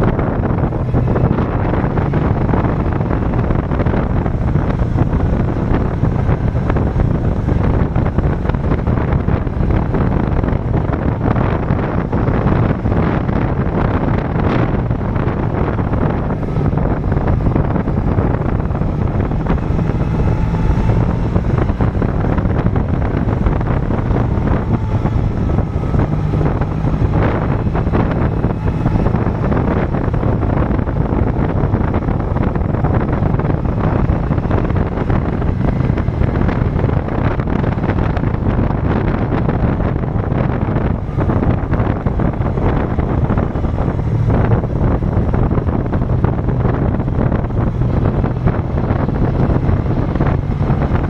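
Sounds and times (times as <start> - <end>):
motorcycle engine running: 0.0 - 51.0
wind buffeting microphone: 0.0 - 51.0.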